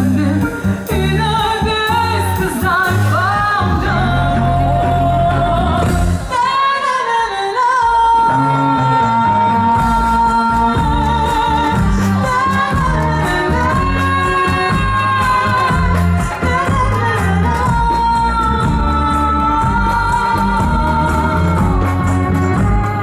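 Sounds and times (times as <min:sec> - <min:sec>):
live band playing: 0:00.0 - 0:23.0
person singing long notes: 0:00.0 - 0:23.0.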